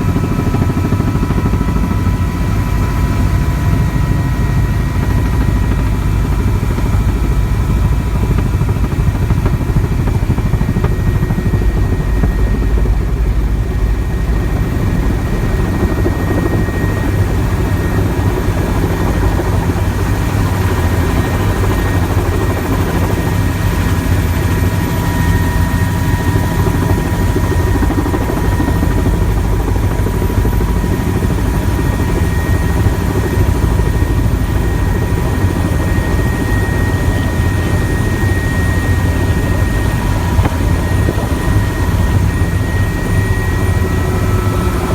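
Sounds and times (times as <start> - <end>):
helicopter drone: 0.0 - 44.9.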